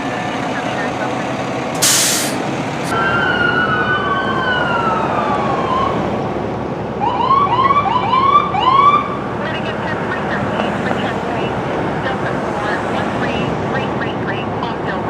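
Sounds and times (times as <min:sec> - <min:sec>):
emergency vehicle siren: 0:00.0 - 0:15.0
vehicle rumble: 0:00.0 - 0:15.0.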